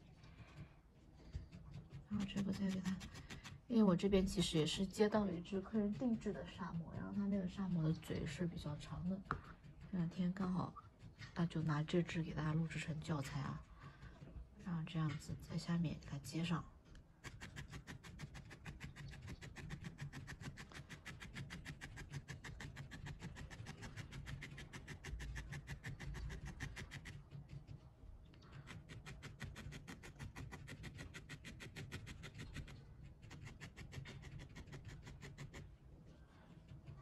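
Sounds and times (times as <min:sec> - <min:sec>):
felting needle jabbing wool: 0:01.2 - 0:13.7, 0:14.5 - 0:35.8.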